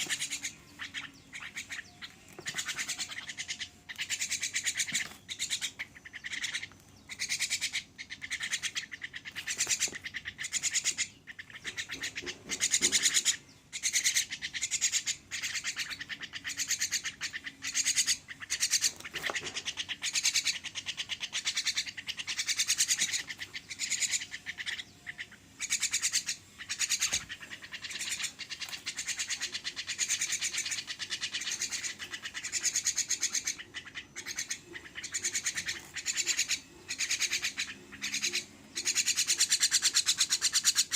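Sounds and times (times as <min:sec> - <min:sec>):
bird harsh buzzy calls: 0:00.0 - 0:40.9.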